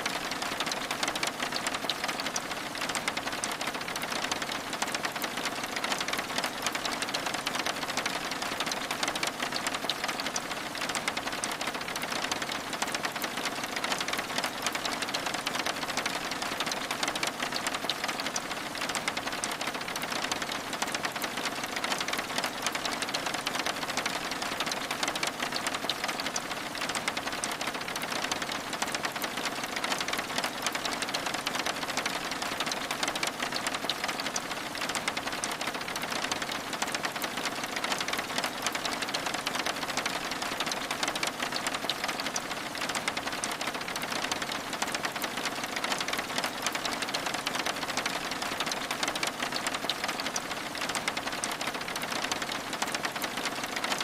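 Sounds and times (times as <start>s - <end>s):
rain pattering on window glass: 0.0s - 54.0s.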